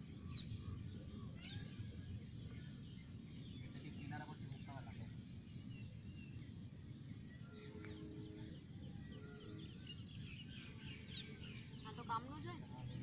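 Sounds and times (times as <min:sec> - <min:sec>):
low outdoor background rumble: 0:00.0 - 0:13.0
small birds chirping: 0:00.0 - 0:13.0.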